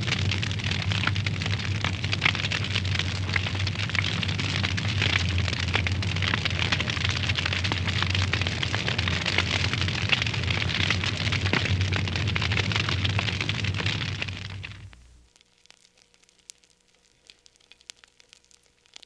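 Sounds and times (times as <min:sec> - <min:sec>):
low hum: 0:00.0 - 0:15.3
wood fire crackling: 0:00.0 - 0:19.0.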